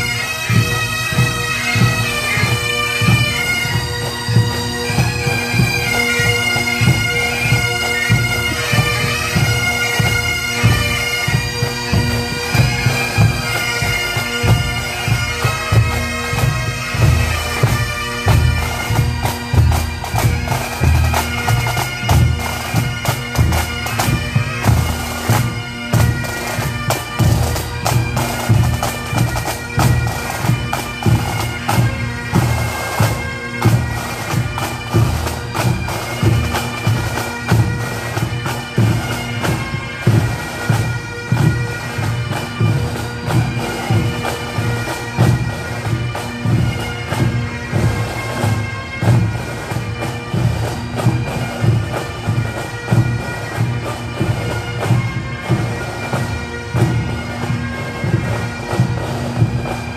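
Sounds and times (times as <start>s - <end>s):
bagpipes playing a march: 0.0s - 59.9s.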